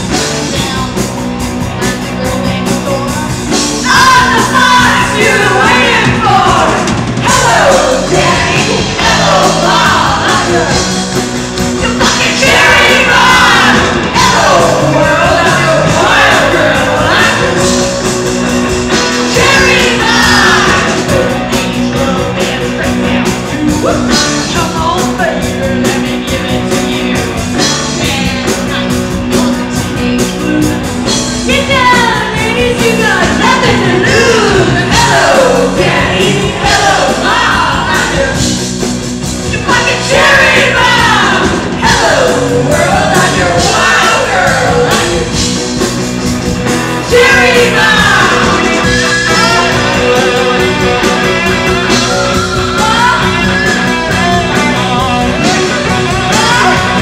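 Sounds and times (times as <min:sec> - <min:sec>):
drums: 0:00.0 - 0:57.0
electric bass: 0:00.0 - 0:57.0
women singing lead: 0:01.9 - 0:27.0, 0:27.8 - 0:38.6, 0:39.5 - 0:45.6, 0:47.0 - 0:57.0.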